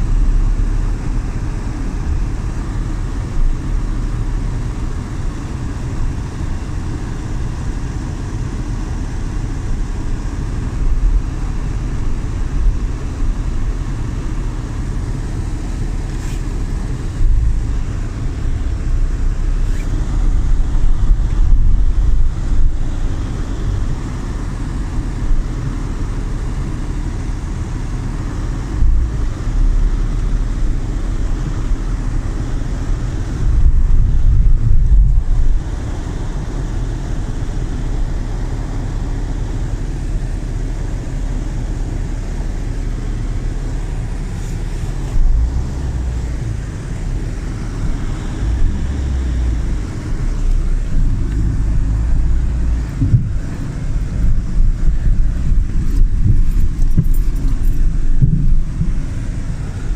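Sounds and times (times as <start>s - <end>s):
low continuous rumbling: 0.0s - 59.9s.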